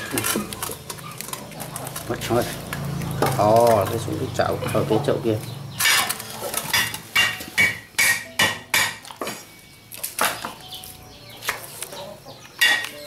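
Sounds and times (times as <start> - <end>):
metal basin and utensils clanking: 0.0 - 10.8, 11.4 - 13.0.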